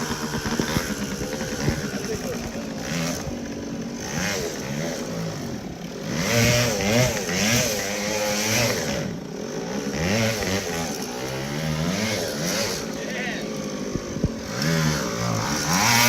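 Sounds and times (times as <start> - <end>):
moped engine revving: 0.0 - 16.0.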